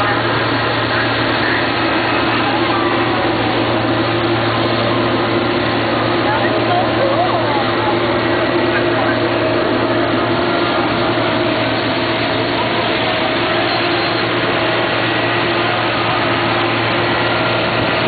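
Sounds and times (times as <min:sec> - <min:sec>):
constant traffic hum: 0:00.0 - 0:18.0.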